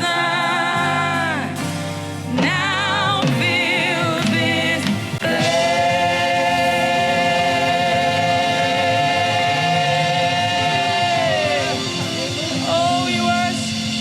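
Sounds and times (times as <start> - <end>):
gospel worship accompaniment: 0.0 - 14.0.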